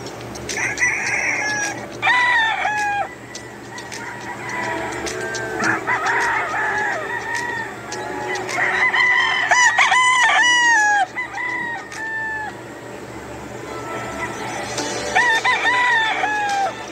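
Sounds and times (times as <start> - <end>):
roosters crowing: 0.4 - 16.9.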